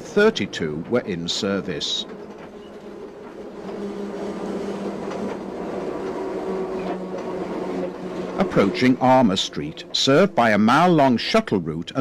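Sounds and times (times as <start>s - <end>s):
electric tram hum: 0.0s - 12.0s
tram wheels running on rails: 0.0s - 12.0s.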